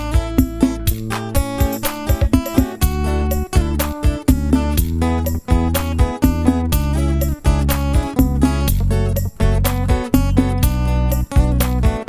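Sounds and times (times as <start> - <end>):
strummed guitar: 0.0 - 12.0
sustained bass notes: 0.0 - 12.0.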